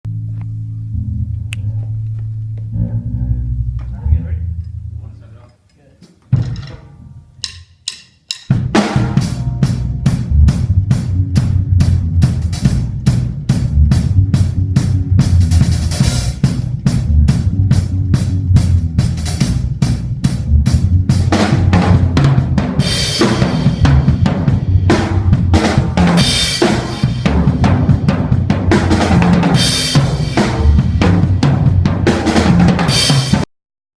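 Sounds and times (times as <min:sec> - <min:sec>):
drum kit beat: 0:06.2 - 0:33.5.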